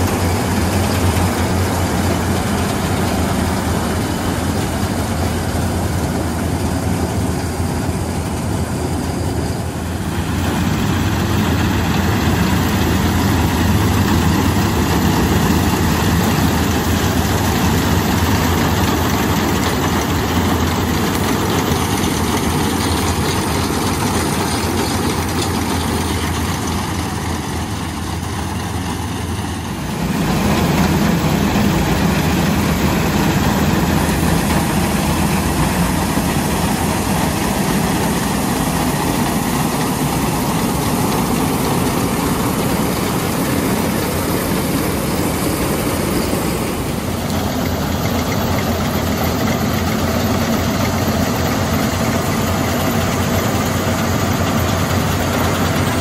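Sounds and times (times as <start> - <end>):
combine harvester engine drone: 0.0 - 56.0
threshing machinery noise: 0.0 - 56.0.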